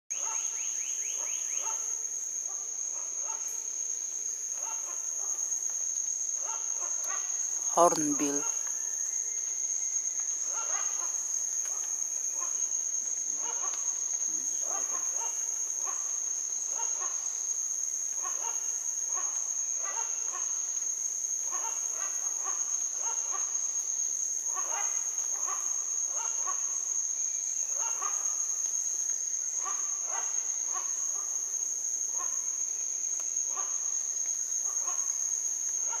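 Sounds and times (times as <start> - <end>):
high-pitched insect trill: 0.1 - 36.0
short insect calls: 0.1 - 36.0.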